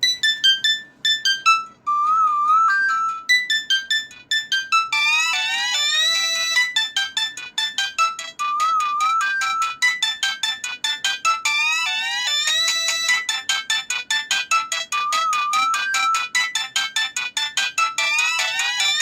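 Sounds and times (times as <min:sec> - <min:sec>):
mobile phone ringtone melody: 0:00.0 - 0:19.0.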